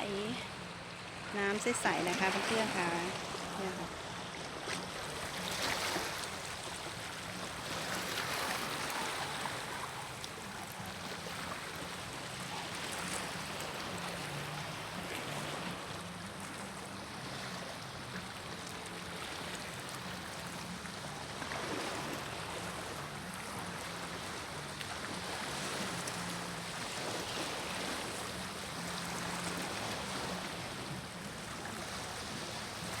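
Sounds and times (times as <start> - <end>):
sea waves washing onto beach: 0.0 - 33.0.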